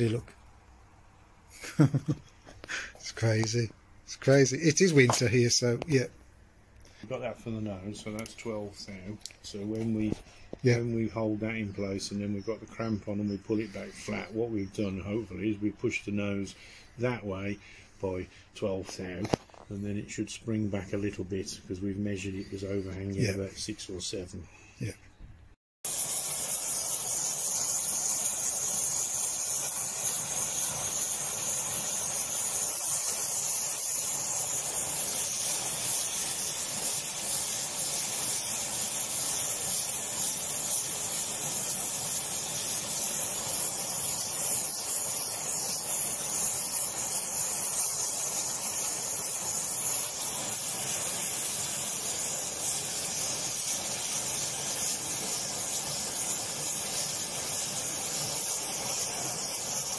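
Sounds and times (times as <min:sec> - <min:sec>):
welding torch hissing: 0:00.0 - 0:24.4, 0:25.8 - 0:59.9.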